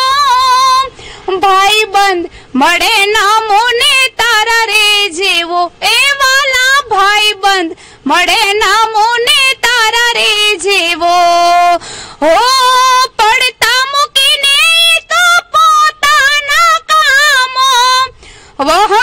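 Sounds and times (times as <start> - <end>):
woman singing with vibrato: 0.0 - 19.0.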